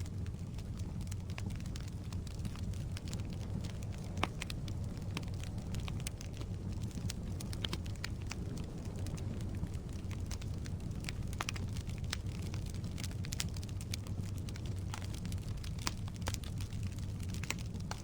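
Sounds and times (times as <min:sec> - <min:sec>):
fire crackles and pops: 0:00.0 - 0:18.0
logs burning in fireplace: 0:00.0 - 0:18.0.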